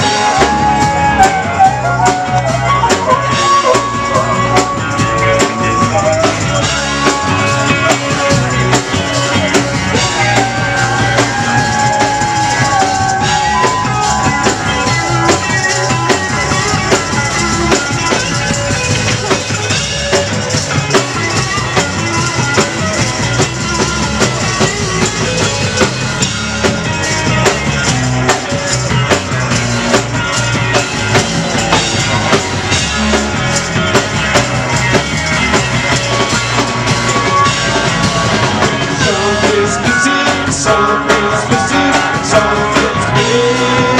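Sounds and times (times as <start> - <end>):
drum kit: 0.0 - 43.9
electric guitar: 0.0 - 43.9.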